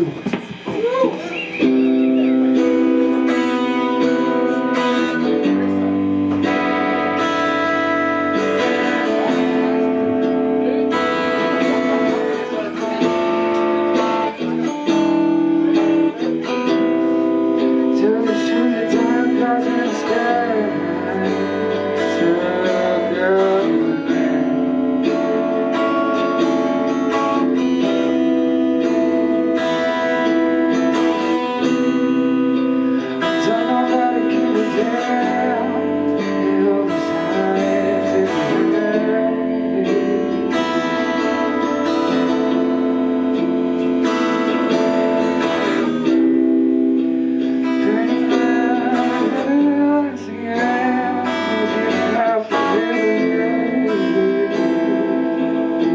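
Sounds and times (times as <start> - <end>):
guitars with bending notes: 0.0 - 55.9
live band playing slow song: 0.0 - 55.9.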